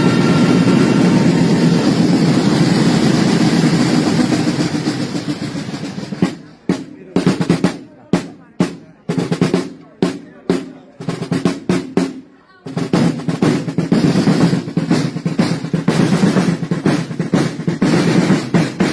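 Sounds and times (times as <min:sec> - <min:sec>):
drum roll: 0:00.0 - 0:18.9
sharp drum strokes: 0:00.0 - 0:18.9.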